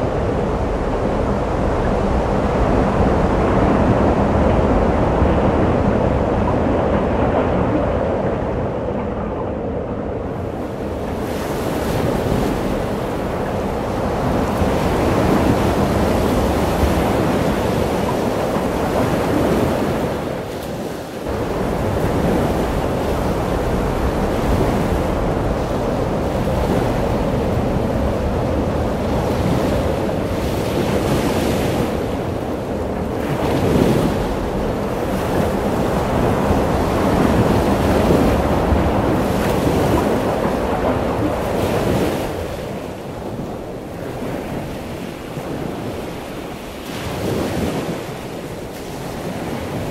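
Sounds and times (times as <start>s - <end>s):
ocean surf breaking: 0.0s - 49.9s
wind rumbling on microphone: 0.0s - 49.9s.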